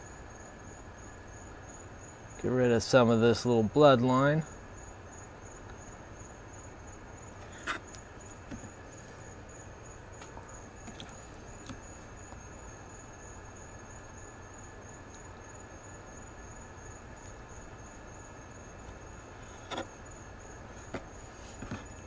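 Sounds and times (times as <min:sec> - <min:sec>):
cricket trill: 0:00.0 - 0:22.0.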